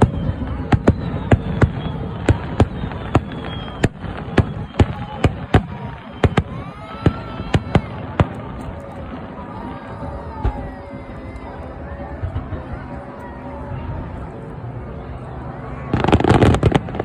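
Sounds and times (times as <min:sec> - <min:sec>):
fireworks bursting: 0:00.0 - 0:14.4, 0:15.8 - 0:17.0
crowd murmur: 0:00.0 - 0:17.0.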